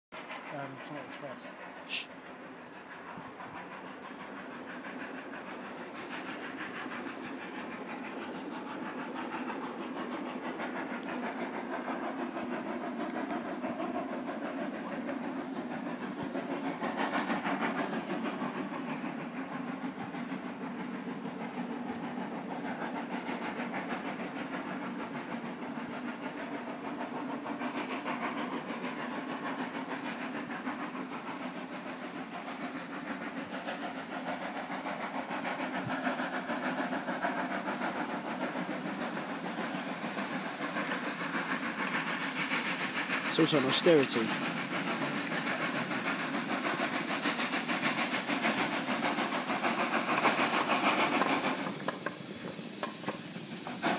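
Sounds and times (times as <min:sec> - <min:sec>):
steam locomotive working: 0:00.1 - 0:53.9.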